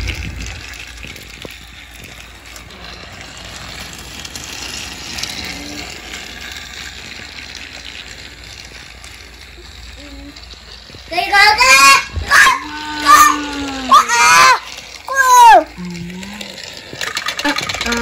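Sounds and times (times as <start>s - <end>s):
toy train motor whirring: 0.0s - 18.0s
wheels rattling on plastic rails: 0.0s - 18.0s.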